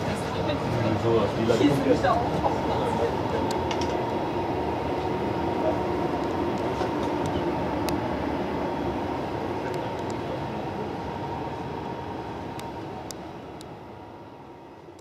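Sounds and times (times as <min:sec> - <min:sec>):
train compartment rumble: 0:00.0 - 0:15.0.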